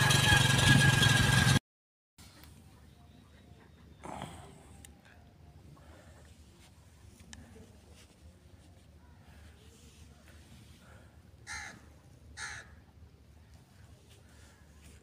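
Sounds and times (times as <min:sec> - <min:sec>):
faint outdoor background: 0:02.2 - 0:15.0.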